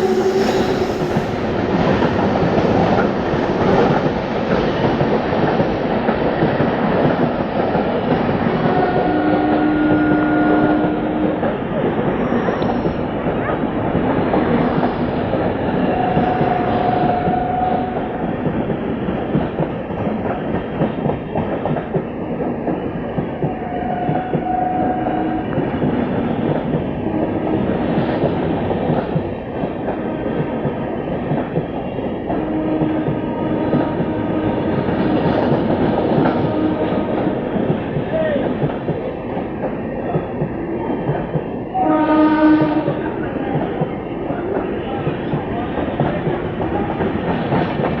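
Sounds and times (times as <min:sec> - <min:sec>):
train wheels clattering: 0:00.0 - 0:48.0.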